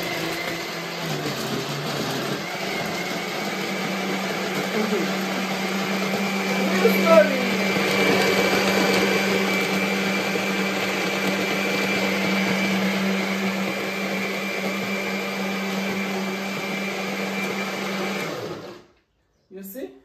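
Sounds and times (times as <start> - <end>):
blender motor running: 0.0 - 19.0.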